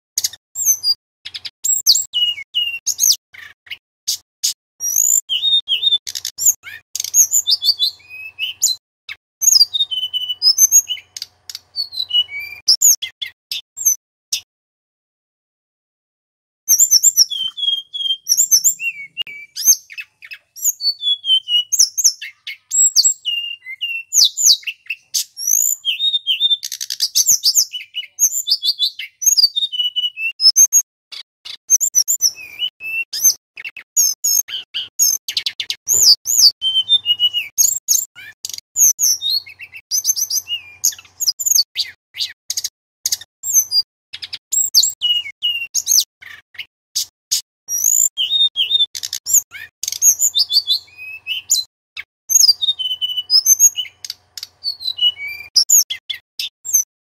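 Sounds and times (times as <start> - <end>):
bird singing whistles and trills: 0.2 - 14.5, 16.7 - 56.9.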